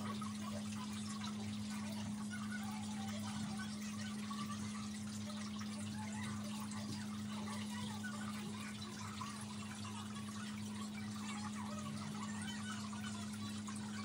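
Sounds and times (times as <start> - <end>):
faint trickling water: 0.0 - 14.0.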